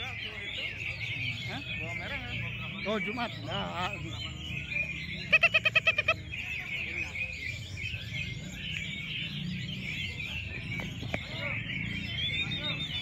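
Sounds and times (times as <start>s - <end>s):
chorus of birds singing: 0.0s - 13.0s
rapid run of pitched bird notes: 0.0s - 13.0s.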